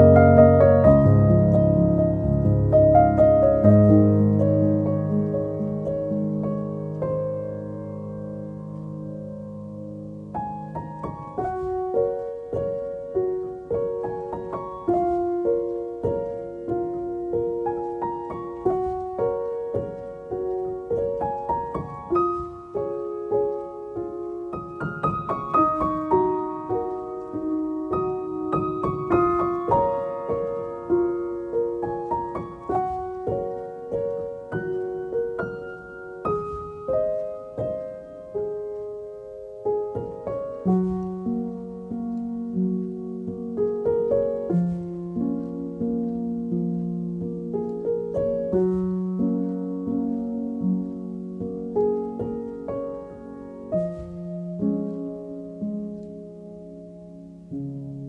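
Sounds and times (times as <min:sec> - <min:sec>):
gentle piano melody: 0:00.0 - 0:58.0.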